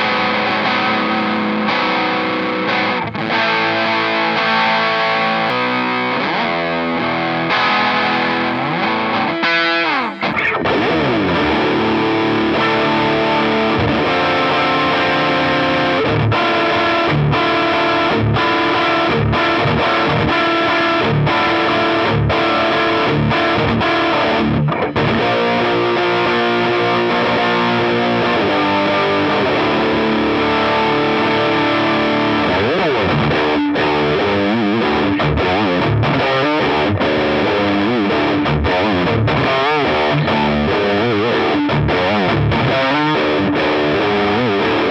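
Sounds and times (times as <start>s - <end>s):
distorted electric guitar: 0.0s - 44.9s.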